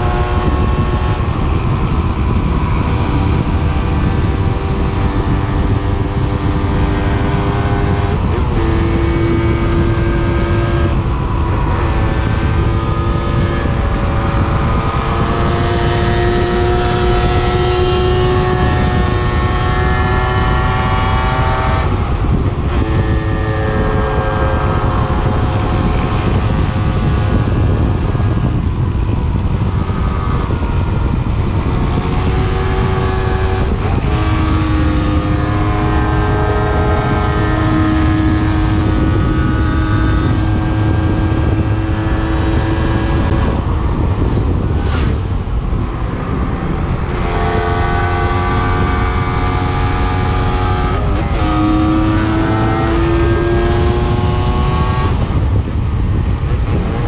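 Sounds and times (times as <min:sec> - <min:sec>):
motorcycle engine revving through gears: 0:00.0 - 0:57.0.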